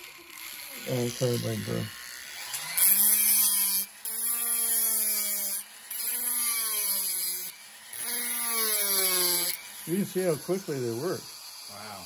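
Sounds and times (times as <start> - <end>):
rotary carver burr cutting wood: 0.0 - 12.0.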